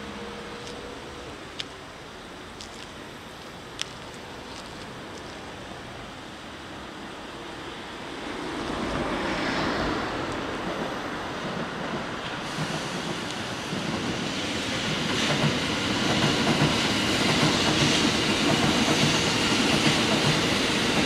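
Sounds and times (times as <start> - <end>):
electric train approaching: 0.0 - 21.0.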